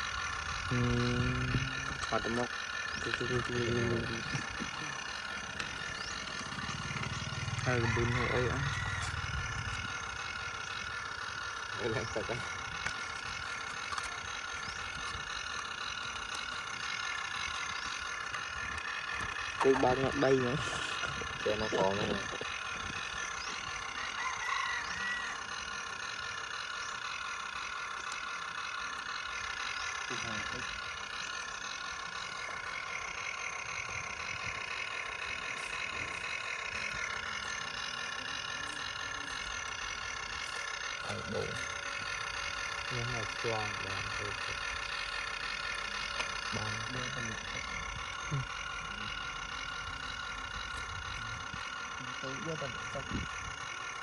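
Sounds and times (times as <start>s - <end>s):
motor humming with high whine: 0.0s - 54.0s.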